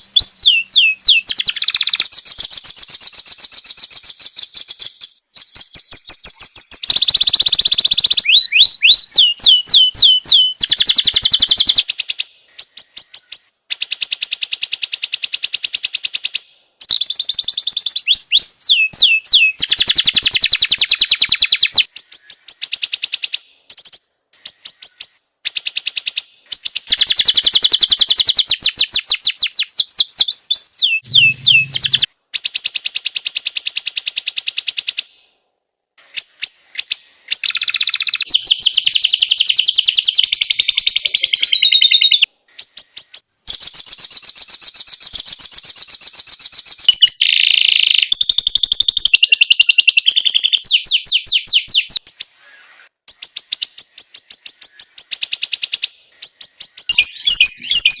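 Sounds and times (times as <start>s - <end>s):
songbird chirps and trills: 0.0s - 35.0s, 36.0s - 58.0s.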